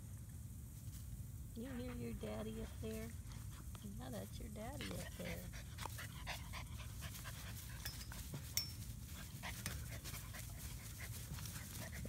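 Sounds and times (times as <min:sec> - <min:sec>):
puppies panting: 0:01.6 - 0:12.0.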